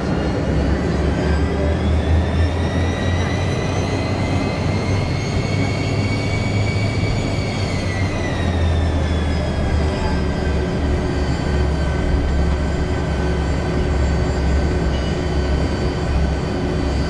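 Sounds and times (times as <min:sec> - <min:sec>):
high engine whine: 0:00.0 - 0:17.0
jet engine low rumble: 0:00.0 - 0:17.0.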